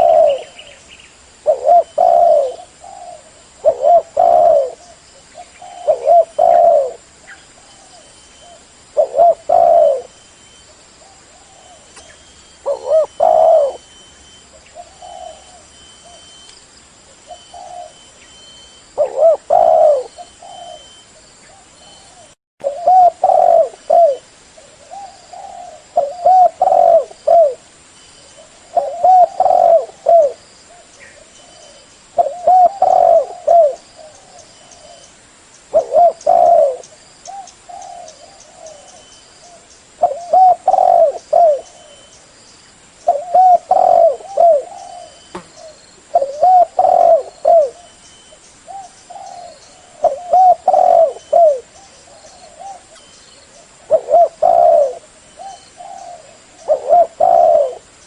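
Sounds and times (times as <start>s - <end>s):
dove cooing: 0.0s - 0.8s, 1.4s - 10.2s, 11.0s - 16.4s, 17.2s - 18.1s, 19.0s - 27.6s, 28.2s - 35.1s, 35.7s - 42.2s, 43.0s - 58.0s.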